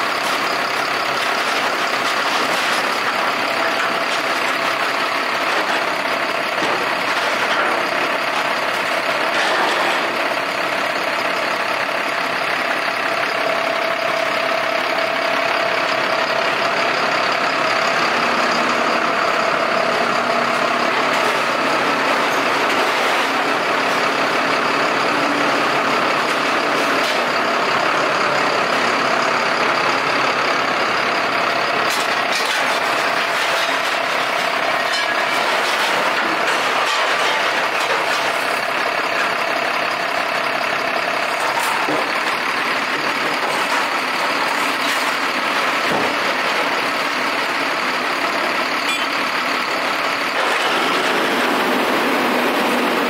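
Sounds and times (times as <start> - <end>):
heavy equipment engine running: 0.0 - 53.0.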